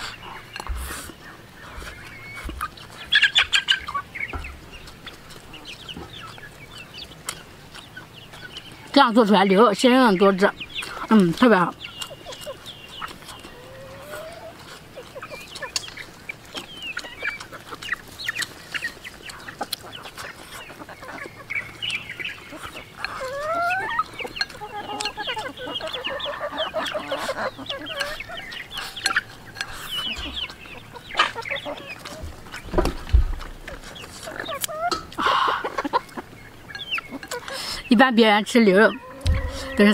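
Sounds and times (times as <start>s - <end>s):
person chewing: 0.0s - 8.9s, 10.6s - 37.9s
chickens clucking: 0.0s - 39.9s.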